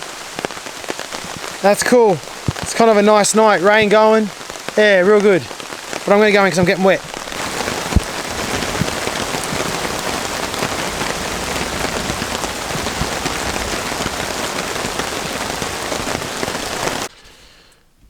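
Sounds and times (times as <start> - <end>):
heavy rain falling: 0.0 - 17.1.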